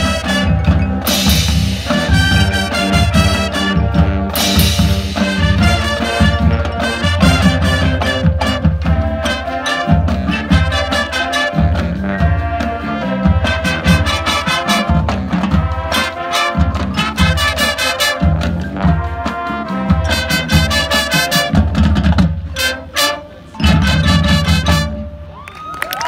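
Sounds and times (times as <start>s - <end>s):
mallet percussion: 0.0s - 22.3s, 23.5s - 25.1s
pounding low drum beat: 0.0s - 22.5s
marching band brass: 0.0s - 25.4s.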